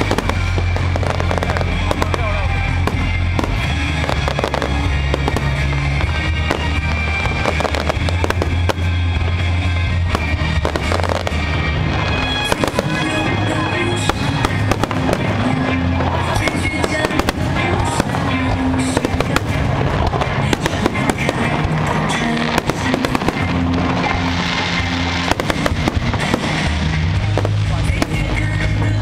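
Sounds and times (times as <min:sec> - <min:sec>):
fireworks bursting: 0:00.0 - 0:29.0
music with low notes: 0:00.0 - 0:29.0.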